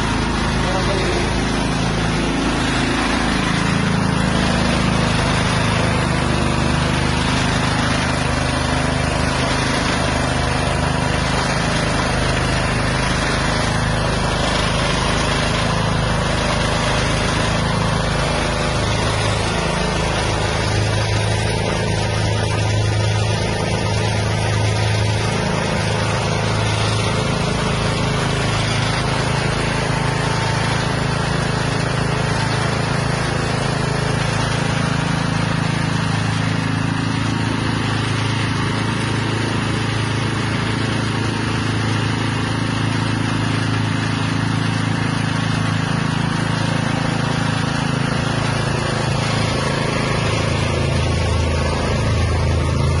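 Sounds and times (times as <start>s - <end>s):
feed mixer machine running: 0.0s - 53.0s.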